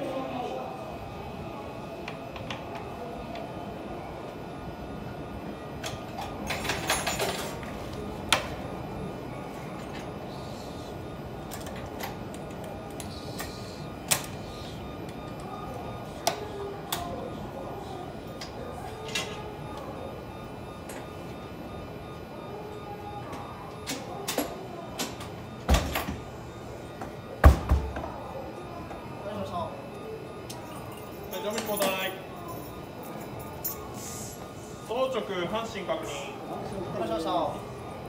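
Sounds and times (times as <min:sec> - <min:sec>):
station hum: 0:00.0 - 0:38.0.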